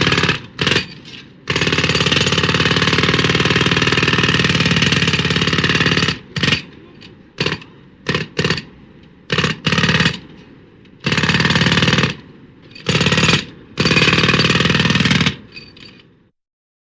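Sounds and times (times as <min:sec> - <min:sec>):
jackhammer hammering: 0:00.0 - 0:06.7, 0:07.4 - 0:08.7, 0:09.3 - 0:10.3, 0:11.0 - 0:15.6.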